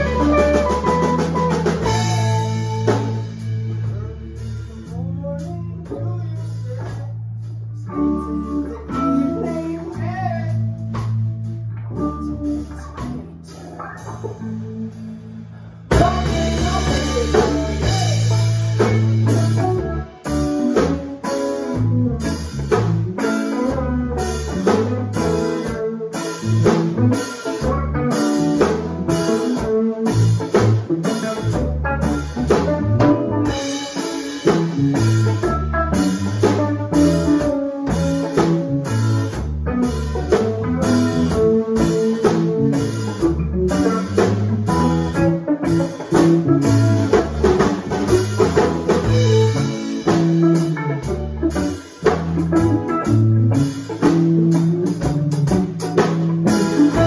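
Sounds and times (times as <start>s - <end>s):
drum kit steady beat: 0.0s - 57.0s
electric bass: 0.0s - 57.0s
electric guitars: 0.0s - 57.0s.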